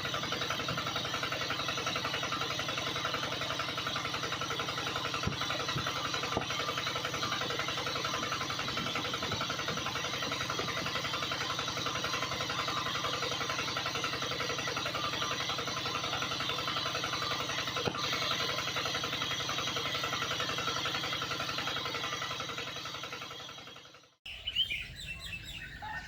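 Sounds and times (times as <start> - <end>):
small motor buzzing: 0.0 - 24.0.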